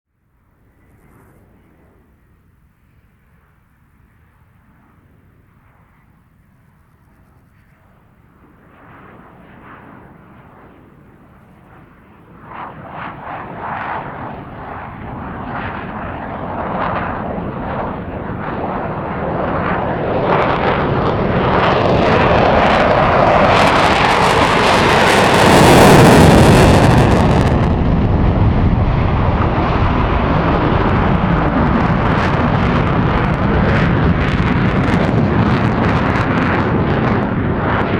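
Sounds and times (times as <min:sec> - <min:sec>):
jet fighter flying past: 0:00.4 - 0:37.9.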